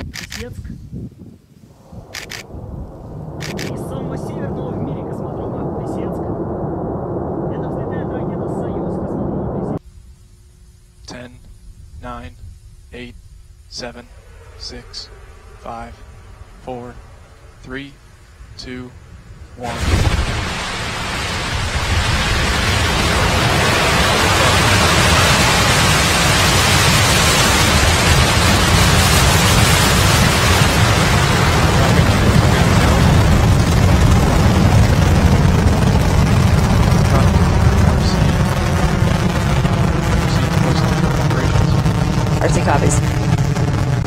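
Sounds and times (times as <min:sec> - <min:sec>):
rocket launch roar: 0:01.6 - 0:09.8, 0:10.5 - 0:44.0.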